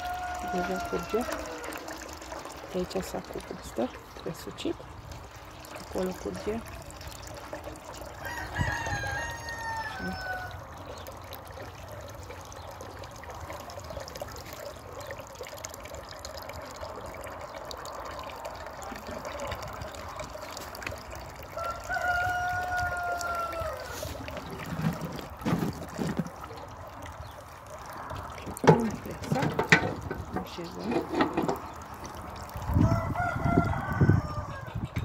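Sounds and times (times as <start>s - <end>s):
wax and water trickling: 0.0s - 35.0s.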